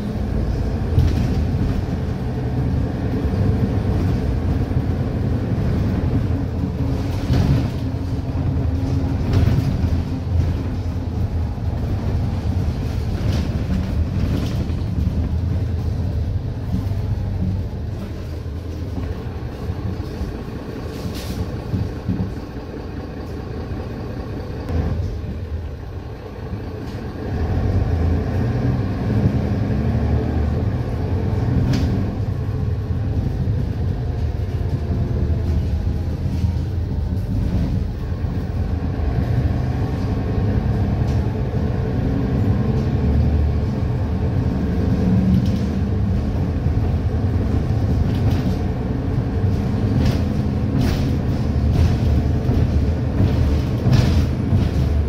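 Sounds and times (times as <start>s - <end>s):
bus diesel engine: 0.0s - 55.0s
road rumble: 0.0s - 55.0s.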